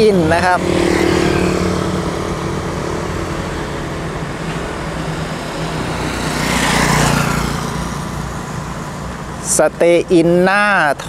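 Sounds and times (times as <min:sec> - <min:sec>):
vehicle passing close by: 0:00.0 - 0:10.1.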